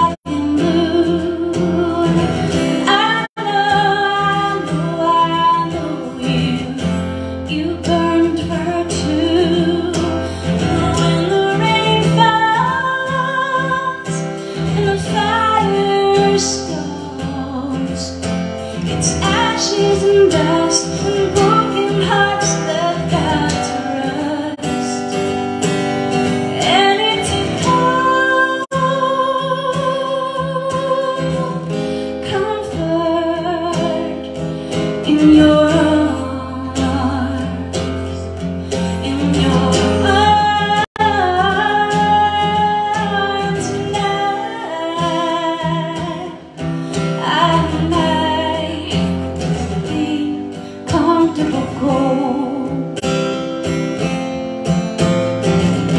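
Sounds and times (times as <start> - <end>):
woman singing: 0.0 - 54.2
strummed acoustic guitar: 0.0 - 55.9.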